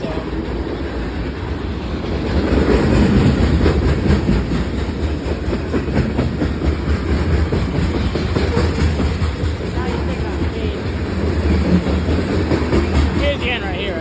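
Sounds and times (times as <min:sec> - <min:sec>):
freight train cars rumbling: 0:00.0 - 0:14.0
wheels clacking over rail joints: 0:00.0 - 0:14.0.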